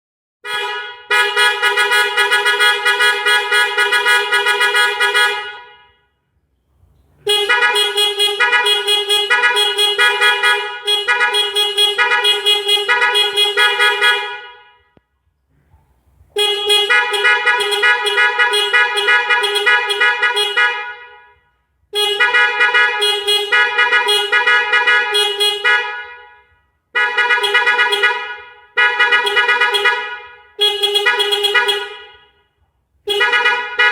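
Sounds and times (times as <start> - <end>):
melodic car horn tunes: 0.4 - 6.3, 7.1 - 15.0, 16.3 - 33.9.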